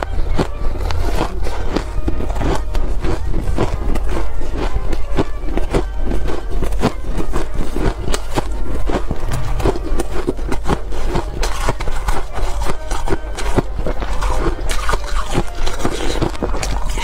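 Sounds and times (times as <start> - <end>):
ice crunching being chewed: 0.0 - 17.0
low steady hum: 0.0 - 17.0.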